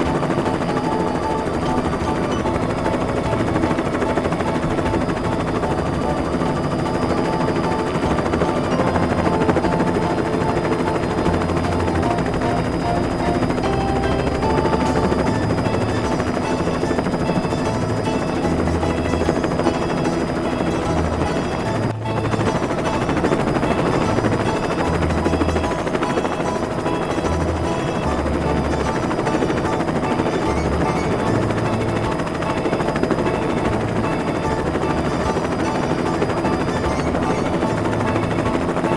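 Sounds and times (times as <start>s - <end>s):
background music with bass: 0.0s - 38.9s
helicopter rotor: 0.0s - 38.9s.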